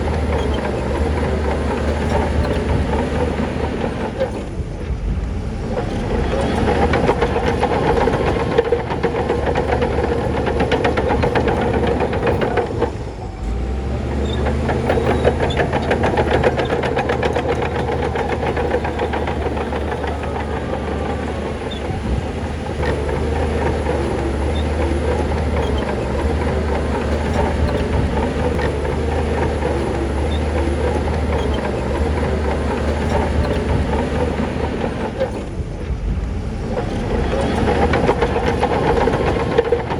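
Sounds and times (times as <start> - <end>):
deeper heavier engine tone: 0.0 - 39.9
heavy diesel machinery clattering: 0.0 - 39.9.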